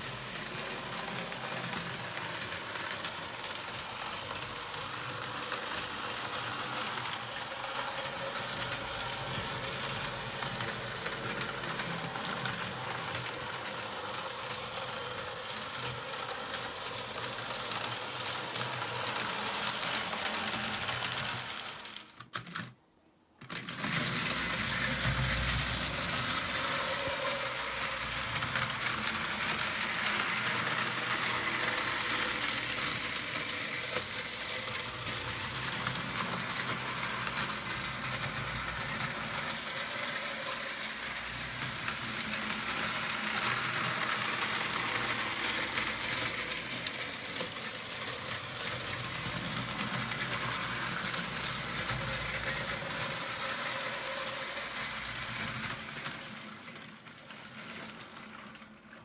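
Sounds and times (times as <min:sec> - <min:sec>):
toy train rattling on track: 0:00.0 - 0:22.8, 0:23.4 - 0:59.0.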